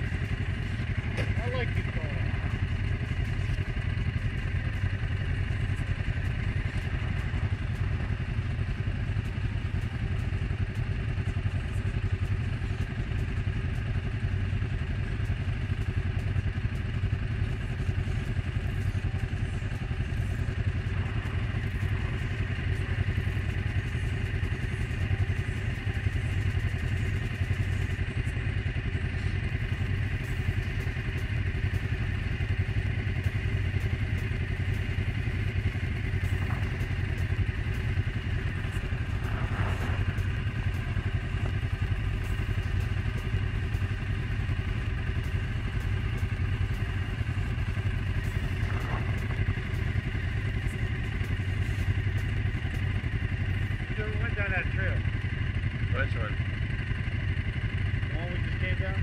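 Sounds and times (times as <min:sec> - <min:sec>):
atv engine idling: 0:00.0 - 0:59.0.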